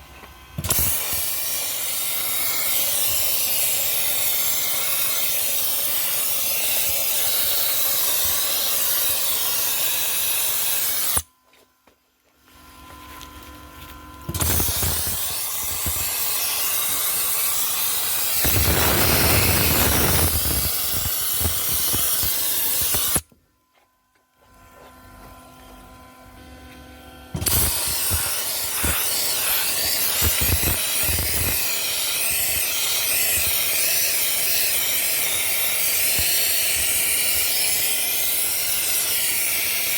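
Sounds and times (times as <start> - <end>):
dry ice blasting gun hissing: 0.6 - 11.3, 14.3 - 23.2, 27.4 - 39.9.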